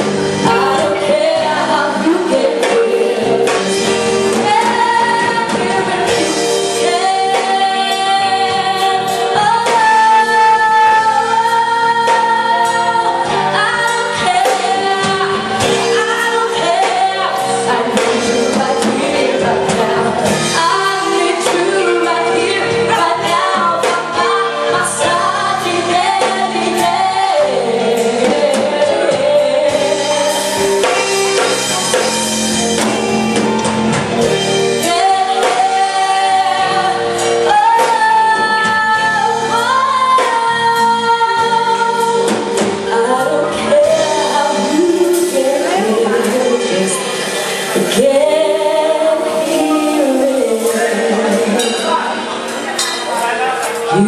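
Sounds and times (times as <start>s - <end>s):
woman singing: 0.0s - 31.5s, 34.7s - 52.4s
live band playing: 0.0s - 54.0s.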